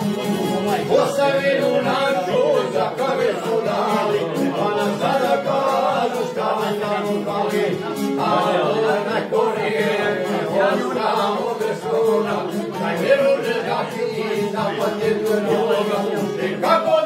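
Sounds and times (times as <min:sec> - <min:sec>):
men singing folk song: 0:00.0 - 0:17.0
plucked string instrument: 0:00.0 - 0:17.0.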